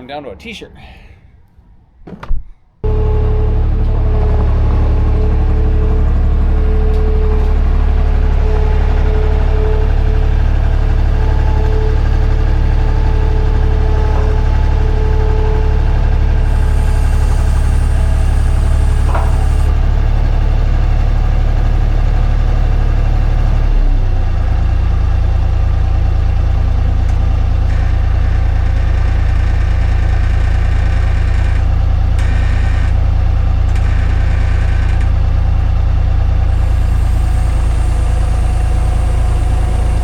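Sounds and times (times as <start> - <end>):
skid steer engine running: 2.8 - 40.0.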